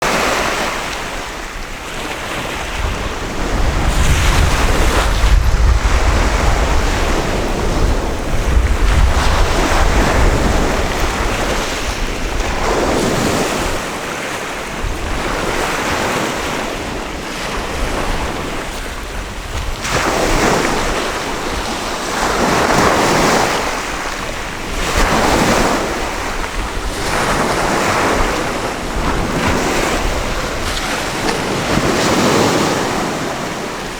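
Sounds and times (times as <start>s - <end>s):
sea waves breaking on beach: 0.0s - 33.9s
wind rumble on microphone: 0.7s - 33.9s.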